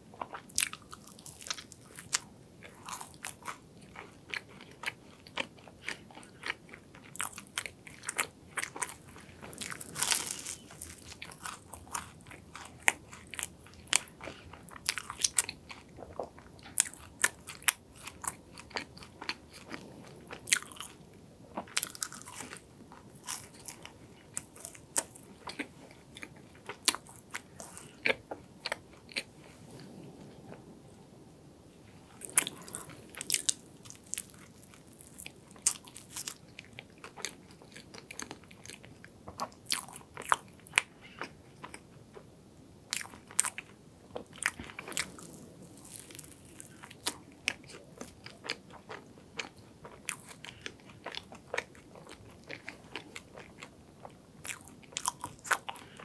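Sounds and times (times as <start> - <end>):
crunchy chewing: 0.2 - 30.0, 32.1 - 42.2, 42.9 - 56.0.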